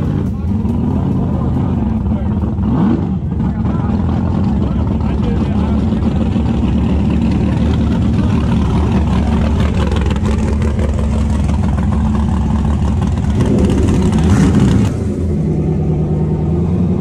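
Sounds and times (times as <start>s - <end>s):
race car engine idling and revving: 0.0s - 17.0s.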